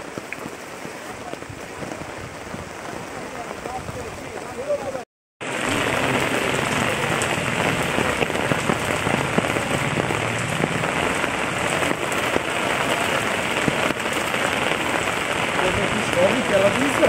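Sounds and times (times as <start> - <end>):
rain falling on water: 0.0 - 17.0.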